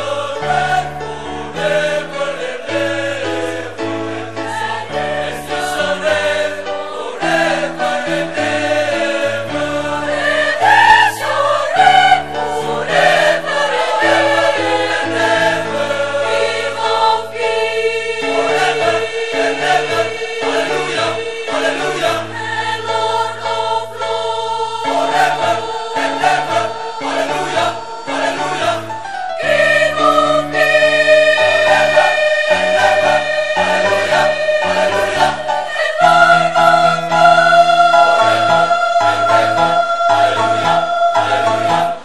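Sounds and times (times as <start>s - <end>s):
choir singing in harmony: 0.0s - 42.0s.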